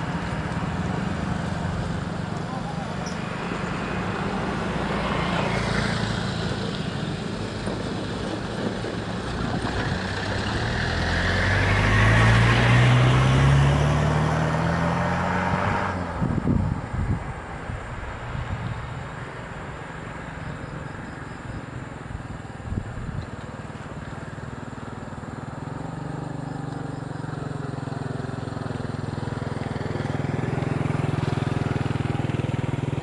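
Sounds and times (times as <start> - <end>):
motorcycles riding over tracks: 0.0 - 14.7, 19.7 - 33.0
minivan driving past: 0.0 - 33.0.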